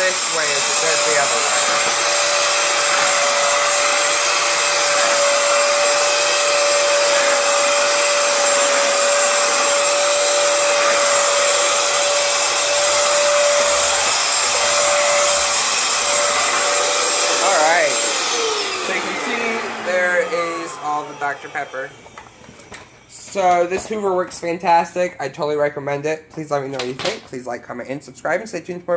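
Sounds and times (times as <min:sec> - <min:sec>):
floor cleaner suction motor whine: 0:00.0 - 0:24.9.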